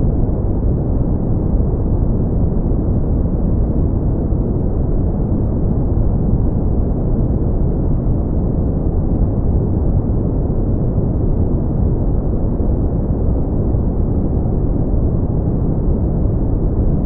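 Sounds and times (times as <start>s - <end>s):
low rumbling brown noise: 0.0s - 17.0s.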